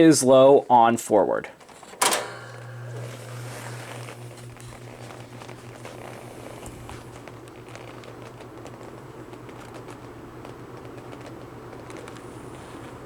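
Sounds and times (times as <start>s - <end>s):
box fan running: 1.6s - 13.0s.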